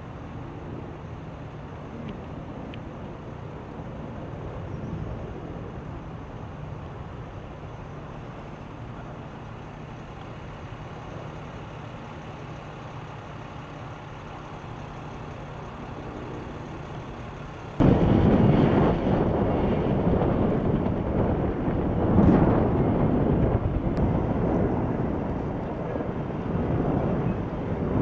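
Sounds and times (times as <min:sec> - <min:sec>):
distant low rumble: 0:00.0 - 0:28.0
helicopter flying overhead: 0:00.0 - 0:28.0.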